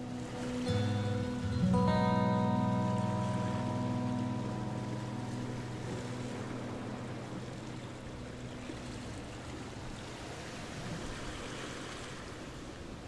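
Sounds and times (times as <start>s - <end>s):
low held music tones: 0.0s - 10.9s.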